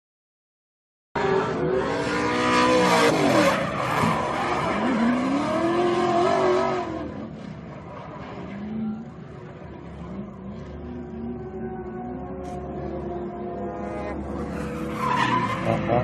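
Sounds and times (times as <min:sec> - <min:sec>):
car engines revving: 0:01.2 - 0:16.0.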